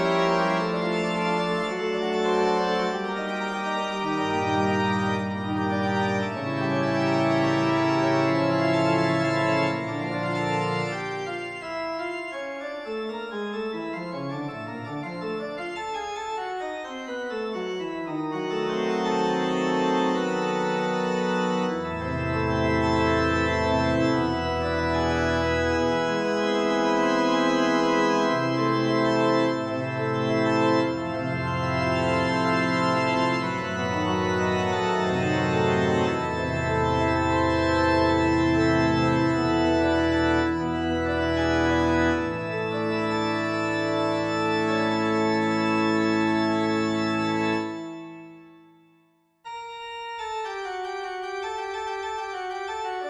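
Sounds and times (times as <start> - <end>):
organ music: 0.0 - 53.0.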